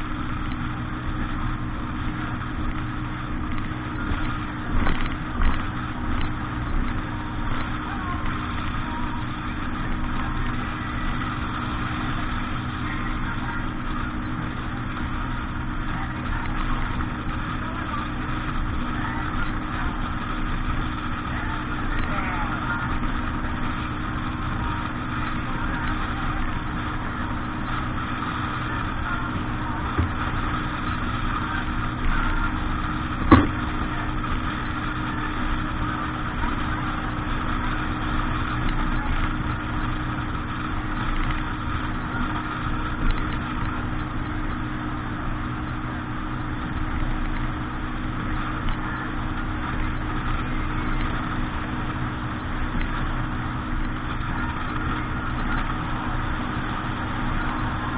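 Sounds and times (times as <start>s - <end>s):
motorboat engine running: 0.0s - 57.9s.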